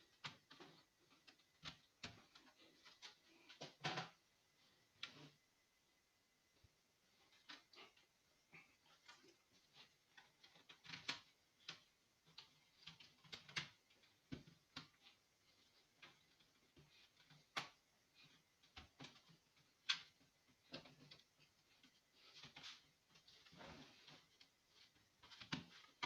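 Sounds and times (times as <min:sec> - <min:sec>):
faint clicks and light taps: 0:00.0 - 0:05.4, 0:06.4 - 0:26.0.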